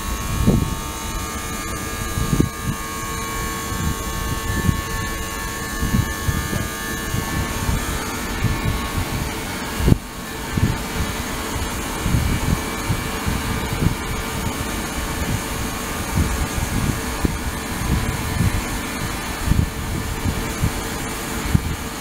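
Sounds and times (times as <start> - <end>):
low rumbles: 0.0 - 22.0
ultrasonic cleaner hissing: 0.0 - 22.0.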